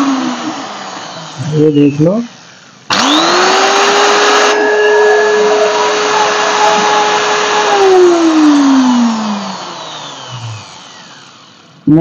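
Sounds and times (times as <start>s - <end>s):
angle grinder motor whine: 0.0s - 11.8s.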